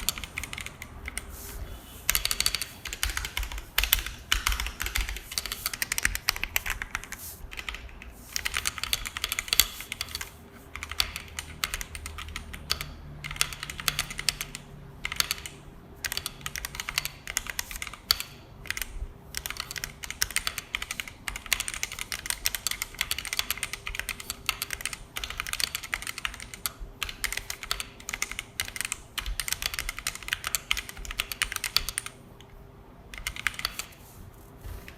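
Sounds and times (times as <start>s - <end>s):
mechanical keyboard typing: 0.0s - 32.2s, 33.1s - 34.0s.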